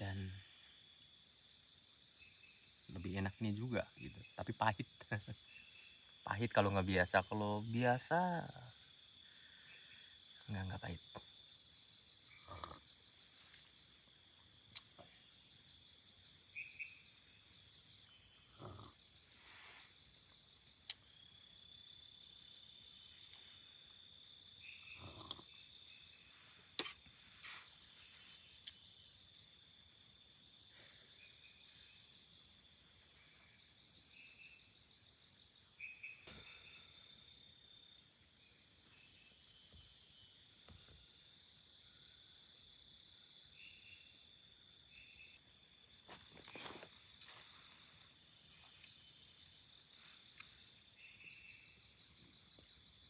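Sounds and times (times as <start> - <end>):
night insects chirring: 0.0 - 53.0
short insect chirps: 0.0 - 53.0.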